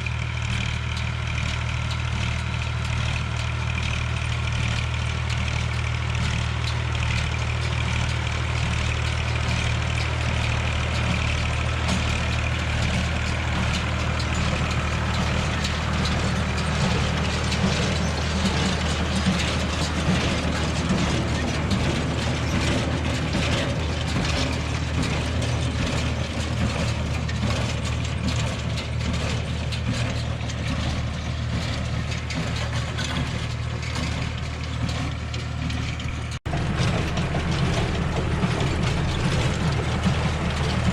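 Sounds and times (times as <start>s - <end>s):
tractor engine running: 0.0s - 40.9s
baler clacking and knocking: 5.5s - 40.9s.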